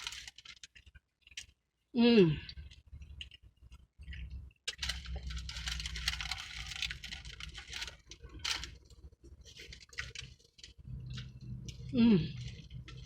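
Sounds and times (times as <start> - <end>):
eating crackling and crinkling: 0.0 - 13.0
low steady hum: 0.0 - 13.0.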